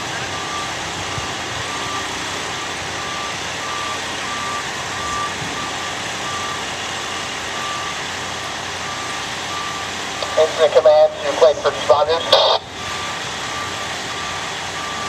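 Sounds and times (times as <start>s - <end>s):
loud background noise: 0.0s - 15.0s
reversing alarm beeping: 0.0s - 15.0s.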